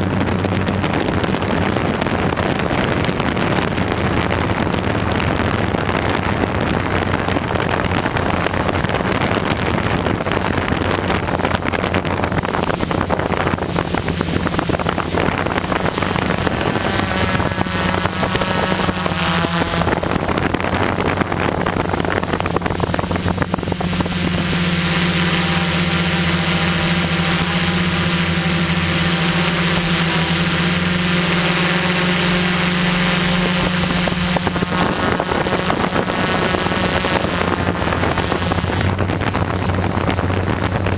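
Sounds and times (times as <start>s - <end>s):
drone propellers humming: 0.0s - 40.9s.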